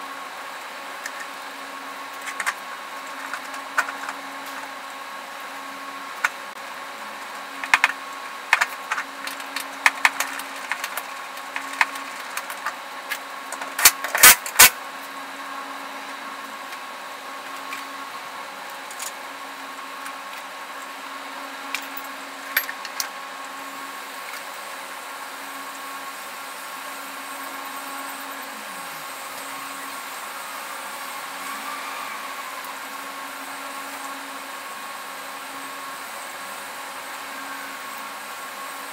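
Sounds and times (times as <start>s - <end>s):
workshop hum: 0.0s - 38.9s.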